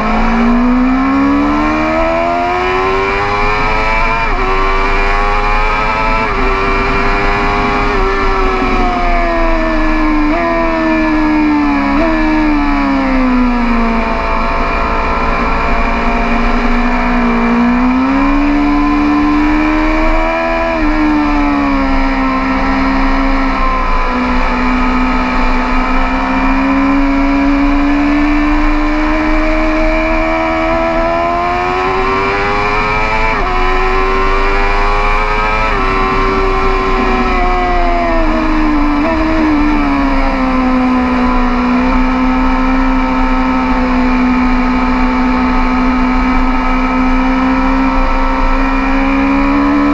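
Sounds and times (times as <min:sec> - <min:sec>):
motorcycle engine at racing speed: 0:00.0 - 0:49.9.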